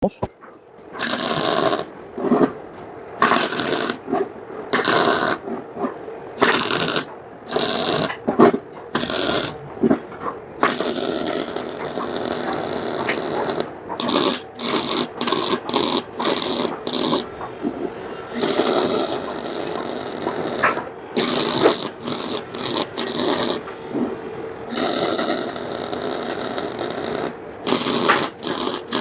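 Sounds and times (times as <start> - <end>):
metallic rattling and scraping: 3.2 - 29.0.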